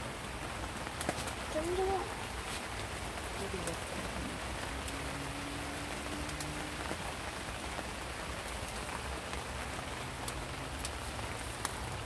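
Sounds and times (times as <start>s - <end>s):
raindrops ticking close by: 0.0s - 12.0s
steady rain: 0.0s - 12.0s.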